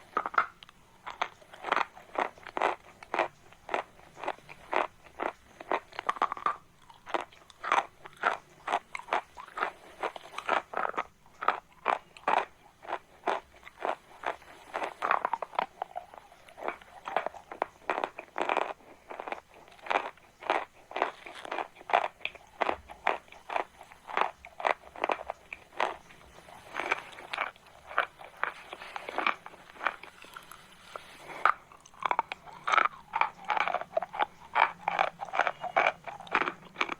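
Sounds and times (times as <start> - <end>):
chalk crunching being chewed: 0.0 - 36.9.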